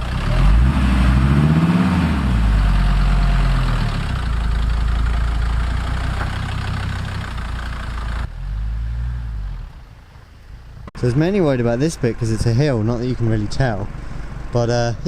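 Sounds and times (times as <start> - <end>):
van engine pulling away: 0.0 - 15.0.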